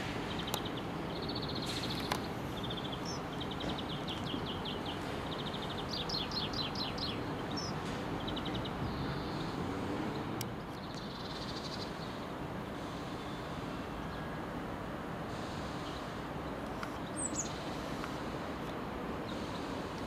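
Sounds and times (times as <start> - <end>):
small birds chirping: 0.0 - 14.3, 15.3 - 20.0.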